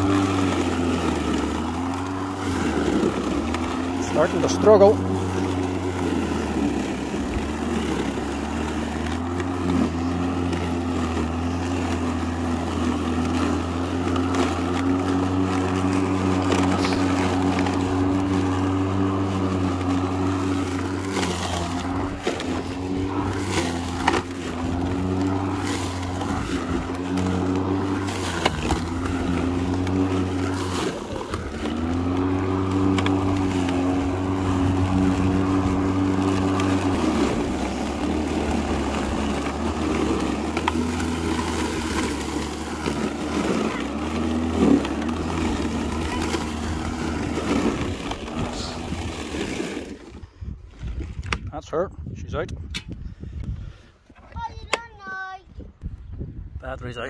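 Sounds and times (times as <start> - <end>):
lawn mower cutting grass: 0.0 - 51.4.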